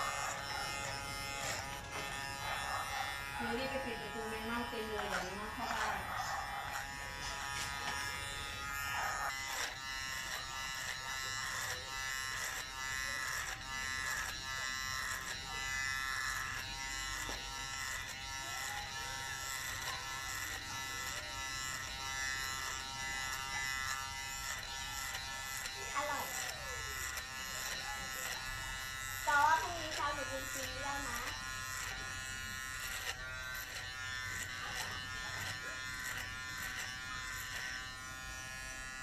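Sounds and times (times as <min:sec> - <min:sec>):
electric hair clipper buzzing: 0:00.0 - 0:39.0.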